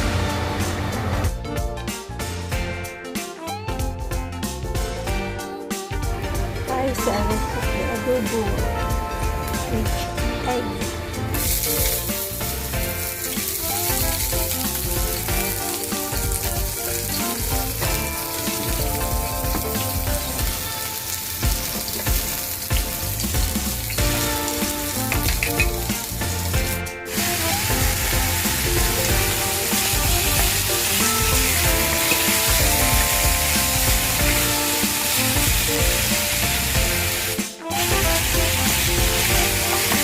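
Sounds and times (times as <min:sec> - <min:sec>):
food sizzling in frying: 0:00.0 - 0:40.0
melodic background music: 0:00.0 - 0:40.0.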